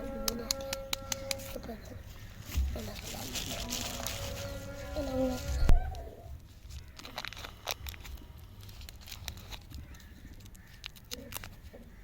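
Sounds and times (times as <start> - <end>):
plastic wrapping crinkling: 0.6 - 11.9.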